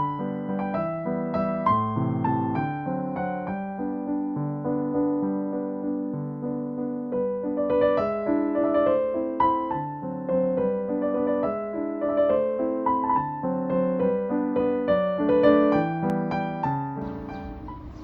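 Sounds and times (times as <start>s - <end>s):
gentle piano tune: 0.0s - 18.0s.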